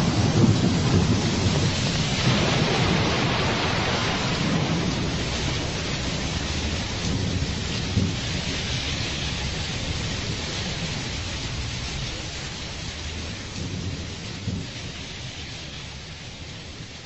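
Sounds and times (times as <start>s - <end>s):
low rolling thunder: 0.0s - 17.0s
rain falling steadily: 0.0s - 17.0s.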